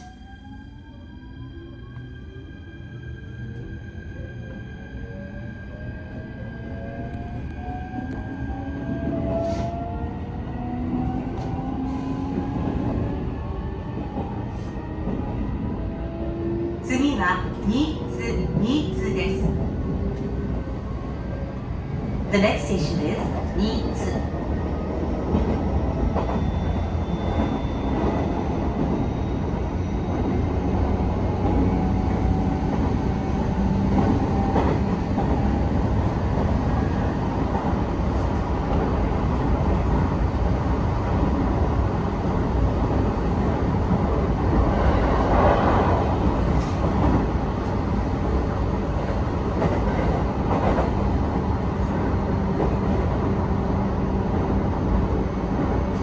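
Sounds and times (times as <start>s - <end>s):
train wheels rumbling on rail: 6.7s - 56.0s.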